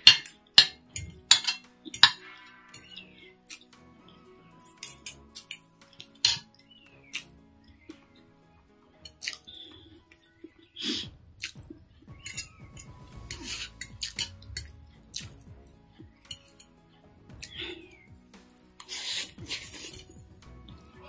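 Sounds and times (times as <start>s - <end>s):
soft background music: 0.0s - 21.0s
chewing: 1.8s - 8.3s, 9.0s - 20.1s.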